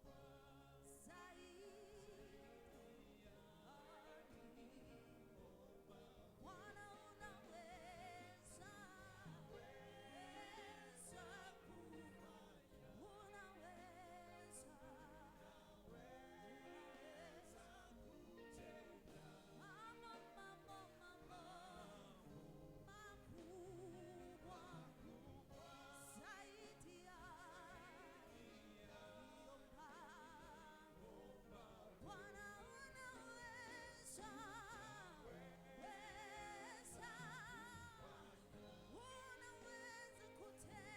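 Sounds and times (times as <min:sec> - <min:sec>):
faint worship singing: 0:00.0 - 0:40.9.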